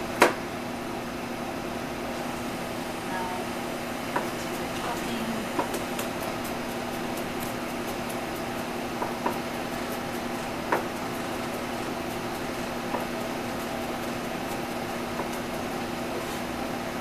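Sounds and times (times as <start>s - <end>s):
kitchen equipment humming: 0.0s - 17.0s.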